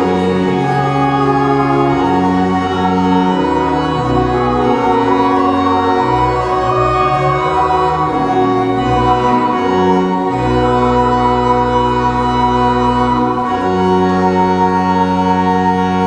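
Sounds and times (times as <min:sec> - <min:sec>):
church organ chords: 0:00.0 - 0:16.0.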